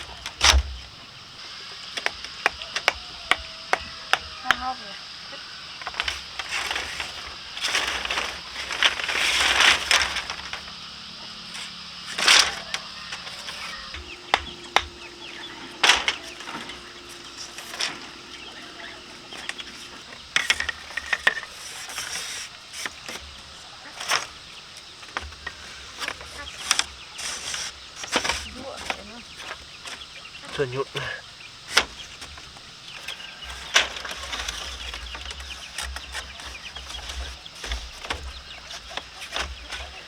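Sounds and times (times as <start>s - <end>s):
chickens clucking: 0.0s - 40.0s
high insect buzz: 0.0s - 40.0s
wings flapping: 0.0s - 40.0s.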